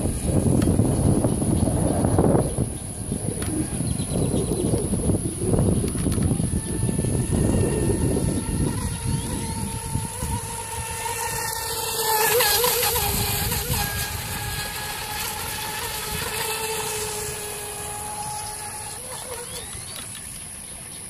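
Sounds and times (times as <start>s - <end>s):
electric motor high whine: 0.0s - 21.0s.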